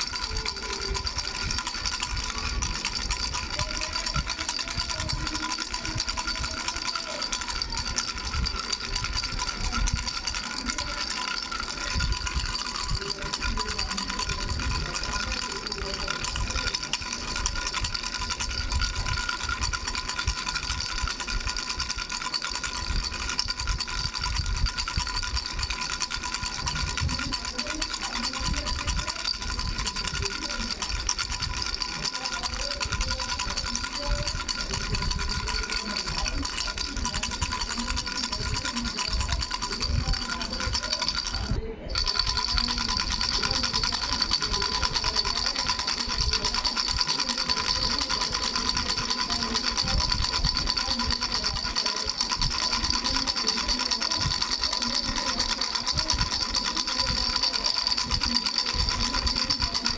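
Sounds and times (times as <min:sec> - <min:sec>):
baby rattle shaking: 0:00.0 - 0:59.9.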